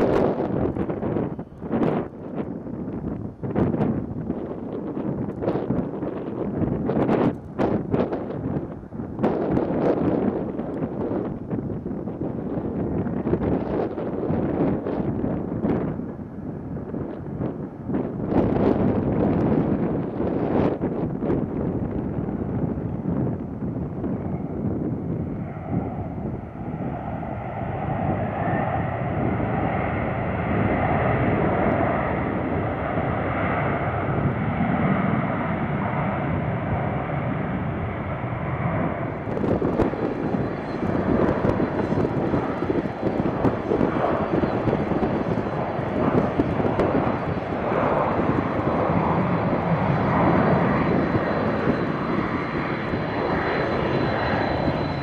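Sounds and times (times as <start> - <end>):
high engine whine: 0.0 - 55.0
jet engines roaring: 0.0 - 55.0.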